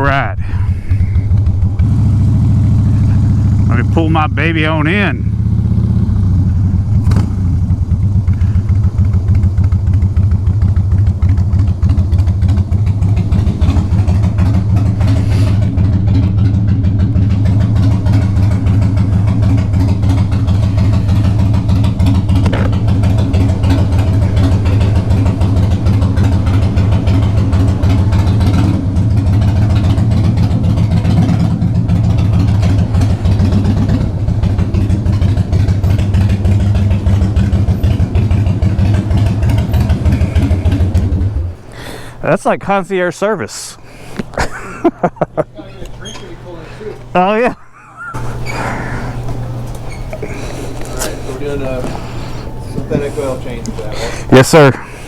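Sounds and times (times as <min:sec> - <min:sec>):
motorcycle engine idling: 0:00.0 - 0:42.3, 0:43.8 - 0:55.0.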